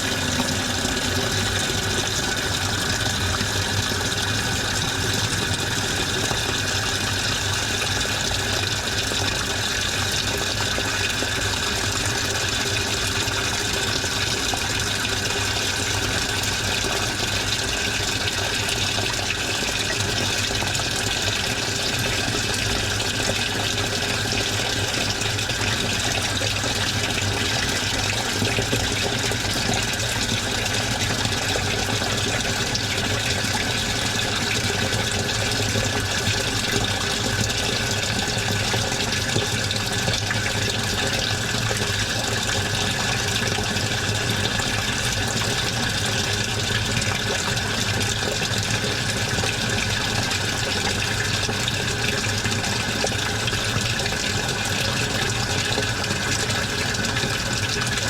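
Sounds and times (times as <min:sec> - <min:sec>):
washing machine running: 0:00.0 - 0:58.0
water rushing in drum: 0:00.0 - 0:58.0.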